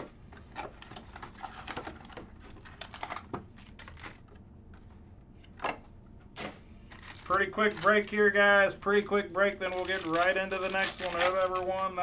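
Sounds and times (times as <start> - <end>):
cardboard box and foil packs handled: 0.0 - 4.4, 6.4 - 12.0.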